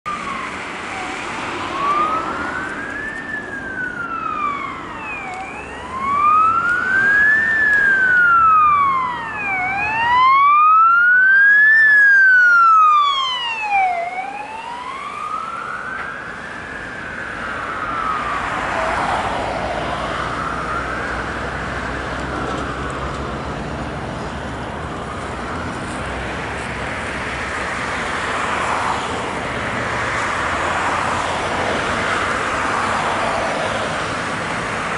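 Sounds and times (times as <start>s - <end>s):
ambulance siren wailing: 0.1s - 23.1s, 24.9s - 34.9s
passing traffic: 0.1s - 34.9s.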